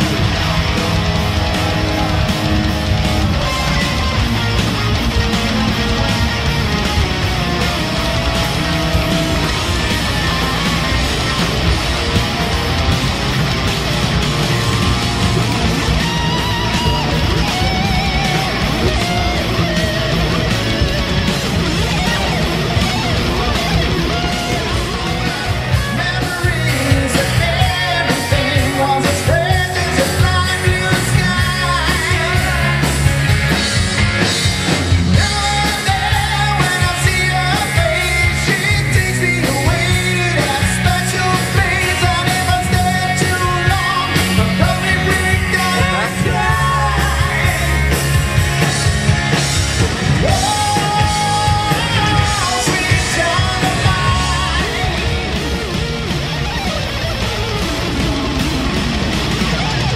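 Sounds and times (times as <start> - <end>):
rock song with singing: 0.0 - 59.9.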